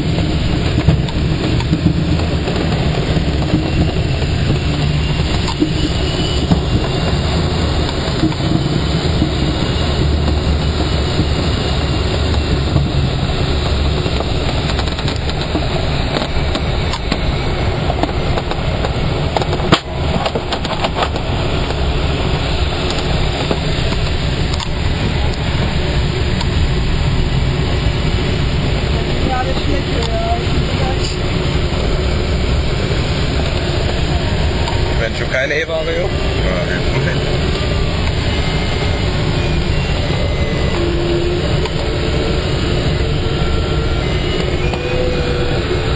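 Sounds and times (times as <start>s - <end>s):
glider rush and rumble: 0.0s - 45.9s.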